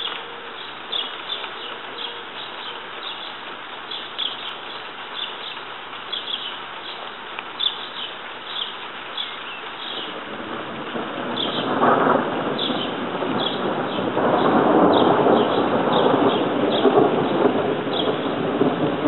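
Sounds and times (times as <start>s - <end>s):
small birds chirping: 0.0s - 10.2s, 11.3s - 11.8s, 12.6s - 18.3s.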